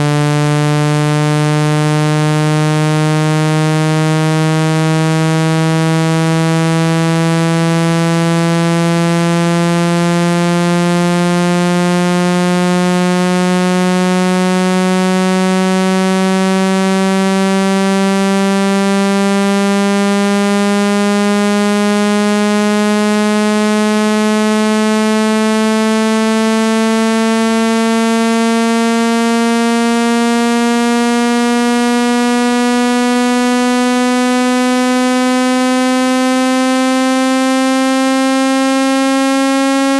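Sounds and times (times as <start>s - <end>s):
rising electronic test tone: 0.0s - 39.9s.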